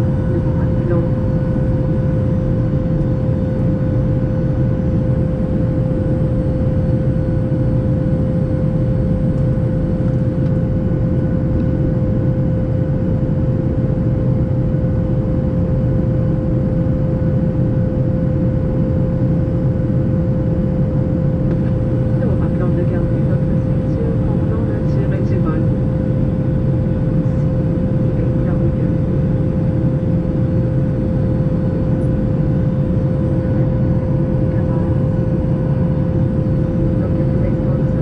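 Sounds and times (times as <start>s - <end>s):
airplane cabin low roar: 0.0s - 38.0s
constant hum tone: 0.0s - 38.0s.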